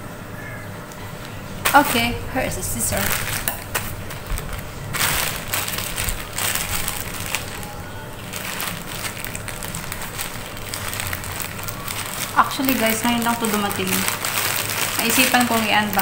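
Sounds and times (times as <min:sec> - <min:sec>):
plastic mailer crinkling: 0:01.0 - 0:16.0
scissors cutting plastic: 0:02.9 - 0:16.0.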